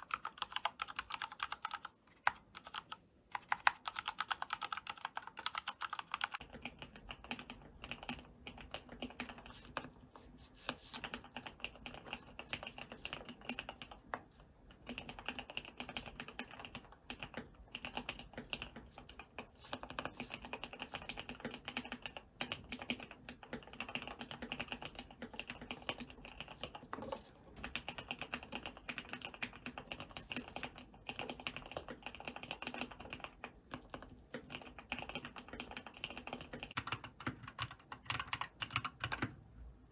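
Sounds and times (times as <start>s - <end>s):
typing on mechanical keyboard: 0.0s - 9.9s, 10.7s - 39.4s.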